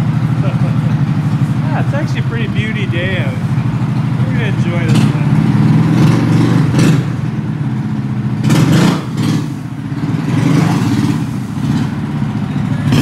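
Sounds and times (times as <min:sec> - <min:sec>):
small gas engine running: 0:00.0 - 0:07.8, 0:08.4 - 0:13.0.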